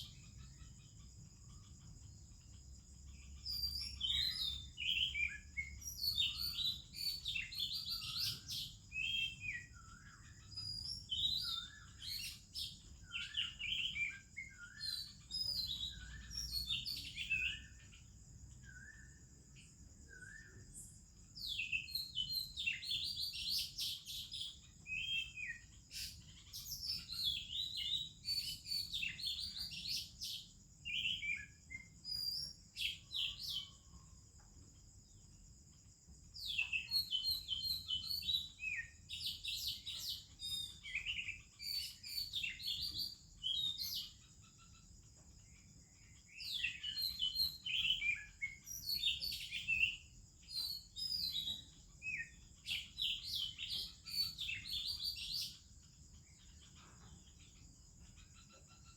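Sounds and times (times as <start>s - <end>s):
bird singing whistled phrases: 3.5s - 18.0s, 18.6s - 34.0s, 36.4s - 44.6s, 46.2s - 55.6s.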